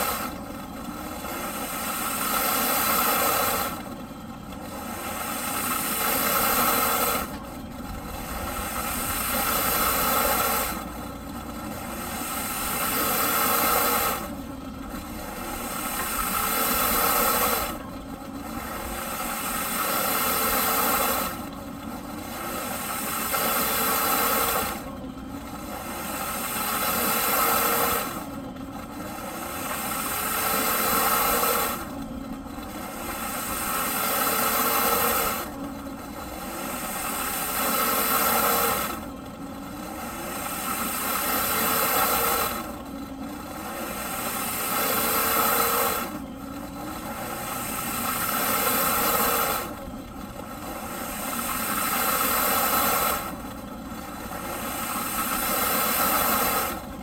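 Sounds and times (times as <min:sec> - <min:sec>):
vacuum cleaner motor surging: 0:00.0 - 0:57.0.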